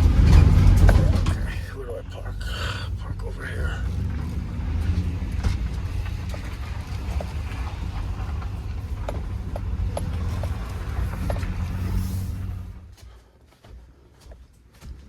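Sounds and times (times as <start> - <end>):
car rumbling while driving: 0.0 - 13.2.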